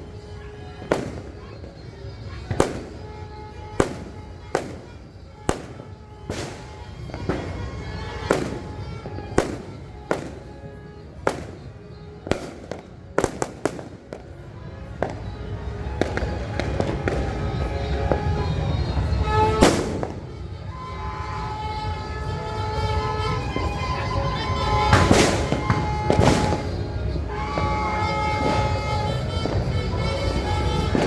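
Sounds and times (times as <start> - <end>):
firecrackers banging: 0.0 - 31.0
steady din with held tones: 0.0 - 31.0.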